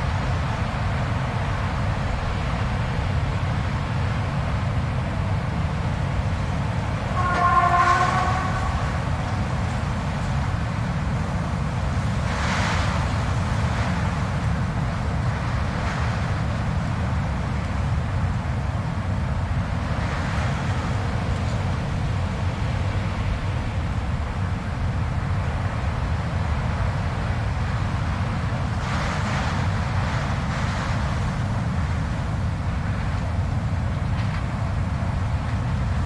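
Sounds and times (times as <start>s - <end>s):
blizzard wind rumbling: 0.0s - 36.0s.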